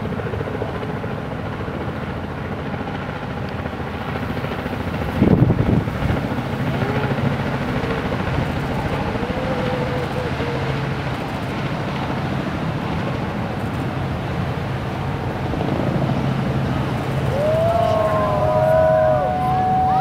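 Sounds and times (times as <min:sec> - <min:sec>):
helicopter rotor chopping: 0:00.0 - 0:20.0.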